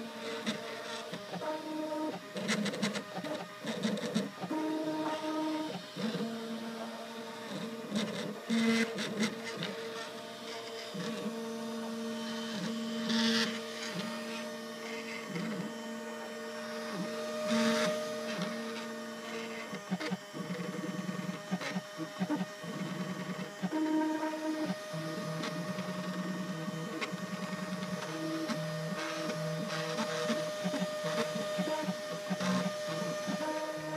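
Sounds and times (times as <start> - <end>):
stepper motor tones: 0.0 - 33.9.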